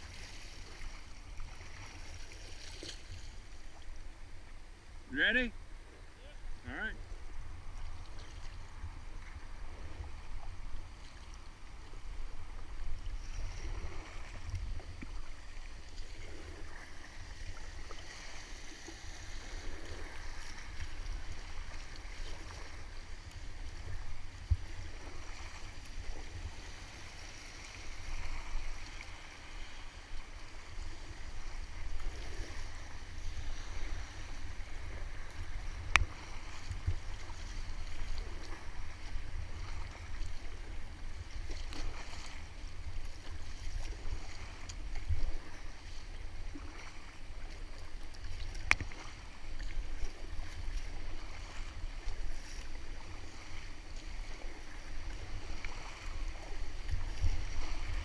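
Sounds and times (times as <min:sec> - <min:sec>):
flowing water rushing: 0:00.0 - 0:58.0
paddle splashing: 0:00.0 - 0:58.0.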